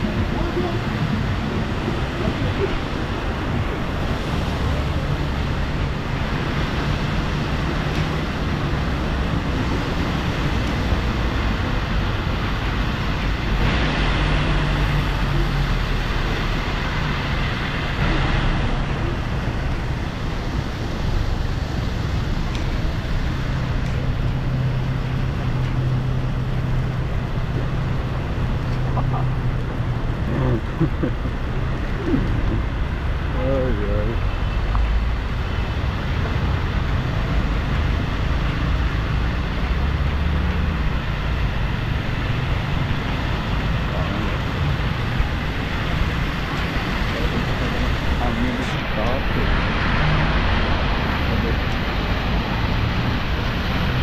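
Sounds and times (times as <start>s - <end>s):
heavy rain: 0.0s - 54.0s
passing vehicles hum: 0.0s - 54.0s.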